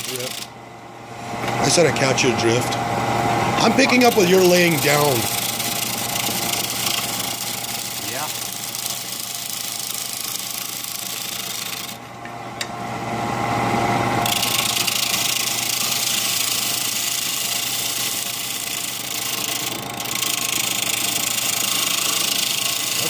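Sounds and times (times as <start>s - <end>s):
tool scraping spinning wood: 0.0s - 0.6s, 1.6s - 12.0s, 14.0s - 23.0s
lathe motor hum: 0.0s - 23.0s.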